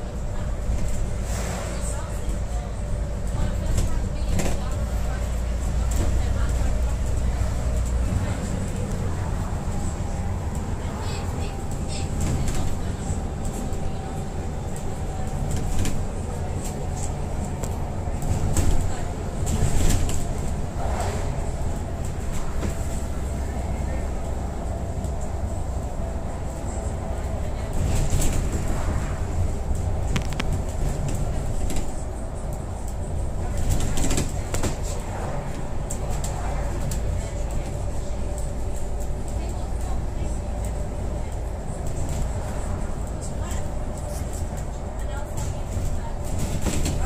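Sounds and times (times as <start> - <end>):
vehicle rumble from inside cabin: 0.0 - 47.0.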